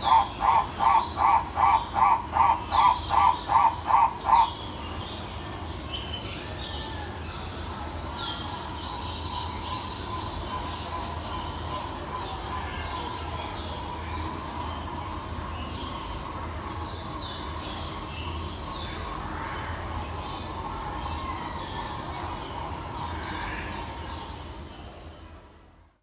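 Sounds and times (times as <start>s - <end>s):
birds chirping and calling: 0.0s - 7.0s, 8.2s - 24.9s
forest background: 0.0s - 25.9s.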